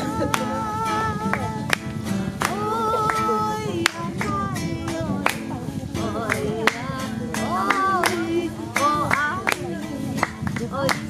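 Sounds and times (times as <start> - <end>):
people singing together: 0.0 - 11.0
hand claps on the beat: 0.1 - 11.0.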